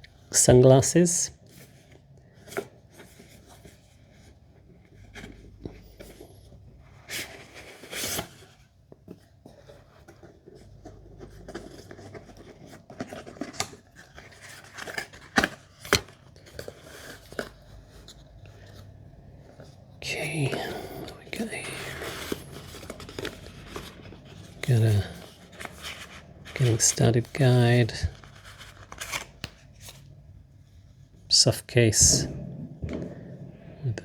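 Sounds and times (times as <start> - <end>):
cardboard packaging rustling: 1.4 - 31.2.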